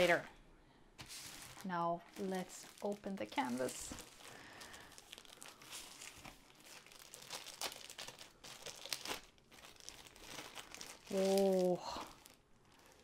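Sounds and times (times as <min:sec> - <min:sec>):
plastic film crinkling: 0:01.0 - 0:13.0.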